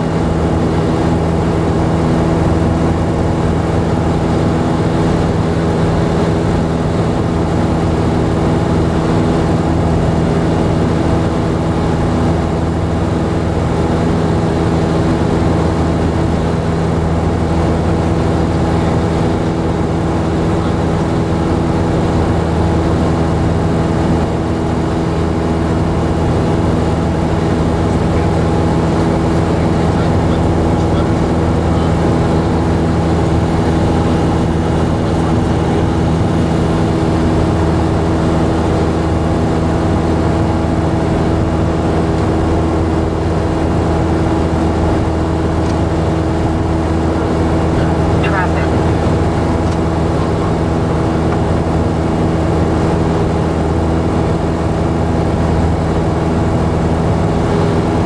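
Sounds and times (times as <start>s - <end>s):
propeller airplane engine droning: 0.0s - 58.0s.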